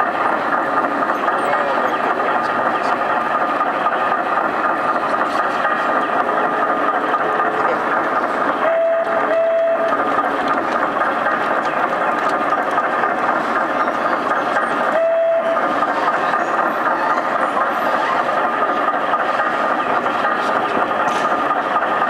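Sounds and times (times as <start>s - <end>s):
model steam shovel running with hiss: 0.0s - 22.0s.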